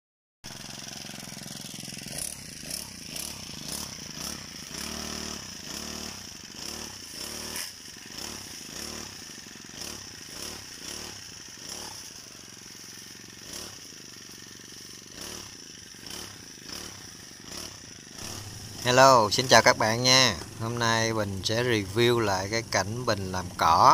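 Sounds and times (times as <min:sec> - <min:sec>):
brush cutter engine running: 0:00.5 - 0:23.9.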